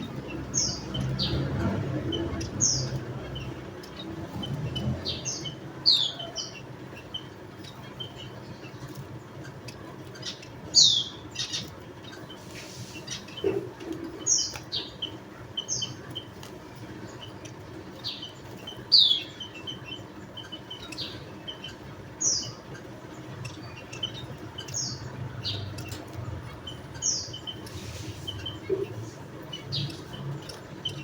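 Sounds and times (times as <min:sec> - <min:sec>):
munias calling: 0:00.0 - 0:31.0.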